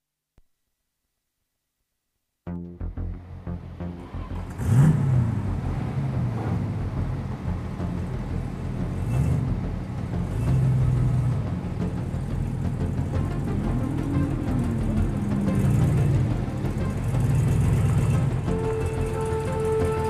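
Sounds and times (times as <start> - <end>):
small car engine running: 3.2 - 20.0.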